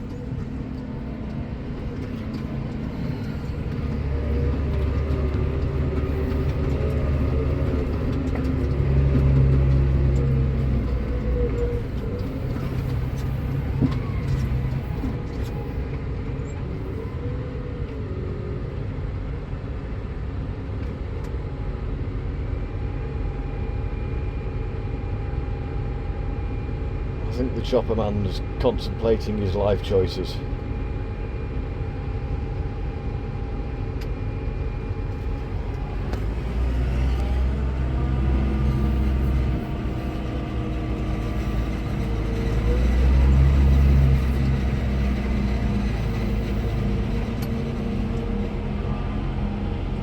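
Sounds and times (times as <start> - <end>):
tractor engine rumbling: 0.0 - 50.0.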